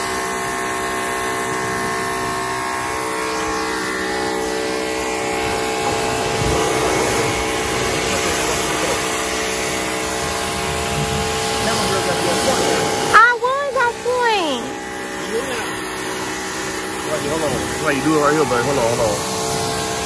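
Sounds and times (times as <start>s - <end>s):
pressure washer motor hum: 0.0s - 20.0s
water spray hissing: 0.0s - 20.0s.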